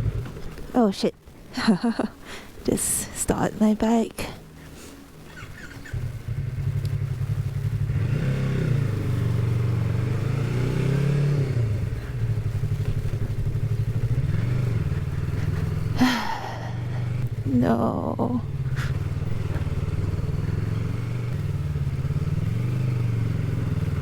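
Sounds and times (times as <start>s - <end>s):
motorcycle accelerating away: 0.0s - 0.7s, 5.2s - 24.0s
motorcycle engine starting: 0.0s - 3.2s, 3.9s - 24.0s.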